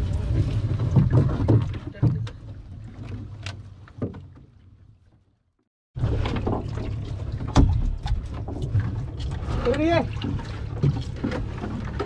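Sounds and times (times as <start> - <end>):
boat engine low rumble: 0.0 - 12.0.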